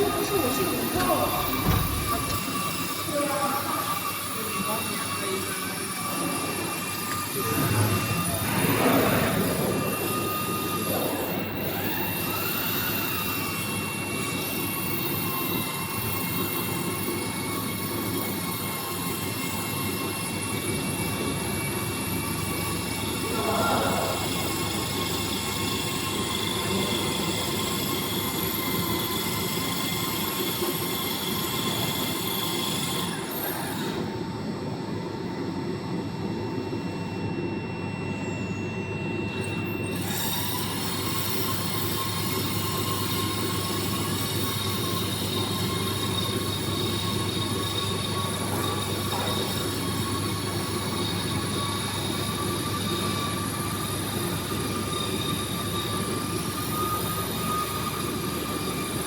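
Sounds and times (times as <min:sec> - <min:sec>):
high machine whines: 0:00.0 - 0:59.0
machine mechanical hum: 0:00.0 - 0:59.0.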